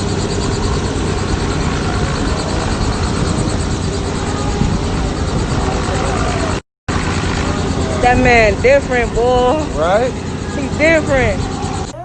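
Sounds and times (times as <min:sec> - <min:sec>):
helicopter rotor and turbine: 0:00.0 - 0:12.0.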